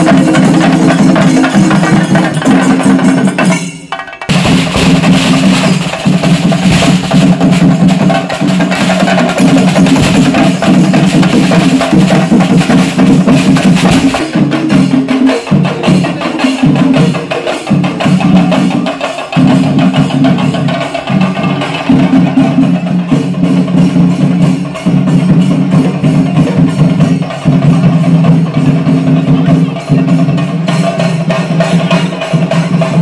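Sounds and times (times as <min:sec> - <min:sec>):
cymbals ringing: 0:00.0 - 0:33.0
drums struck fast: 0:00.0 - 0:33.0.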